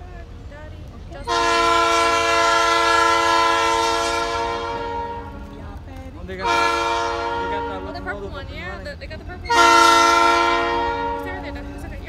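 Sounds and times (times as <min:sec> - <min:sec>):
locomotive air horn blasts: 0:01.2 - 0:05.8, 0:06.4 - 0:12.0.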